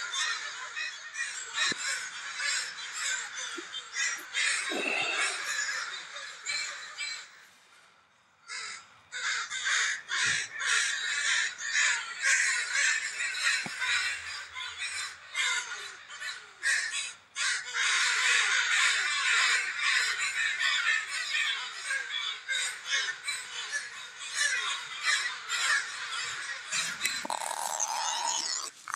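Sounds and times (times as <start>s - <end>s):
crows cawing: 0.0s - 7.5s, 8.4s - 28.9s.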